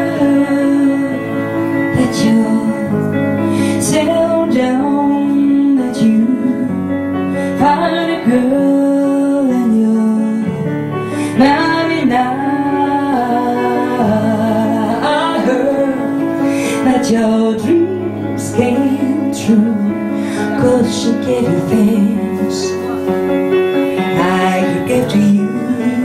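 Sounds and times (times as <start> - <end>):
piano keyboard accompaniment: 0.0 - 26.0
woman singing a slow ballad: 0.0 - 26.0.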